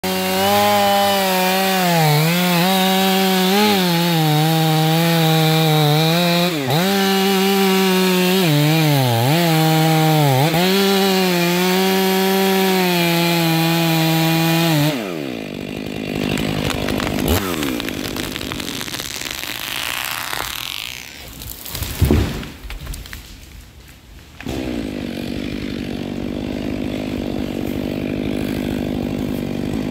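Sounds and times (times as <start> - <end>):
chainsaw cutting wood: 0.0 - 23.4, 24.3 - 29.9.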